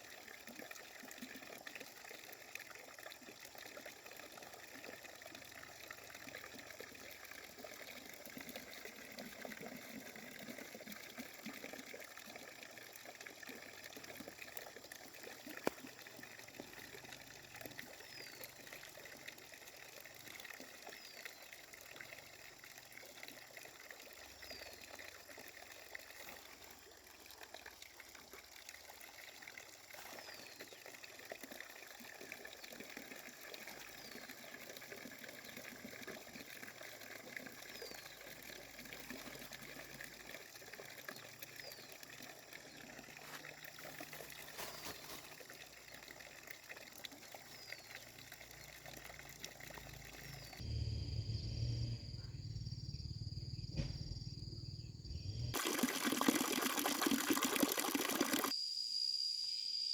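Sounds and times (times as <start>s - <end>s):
water trickling: 0.0s - 50.7s, 55.3s - 58.5s.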